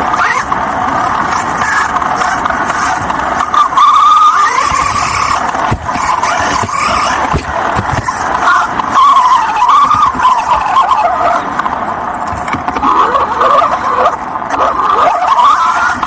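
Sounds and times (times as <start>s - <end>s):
toy car motor whining: 0.0s - 11.7s, 12.5s - 16.0s
tyres rolling on dirt: 0.0s - 16.0s.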